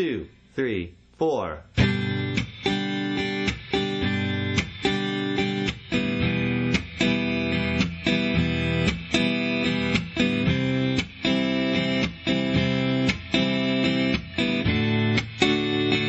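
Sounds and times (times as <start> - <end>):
acoustic guitar strumming: 1.8 - 16.0.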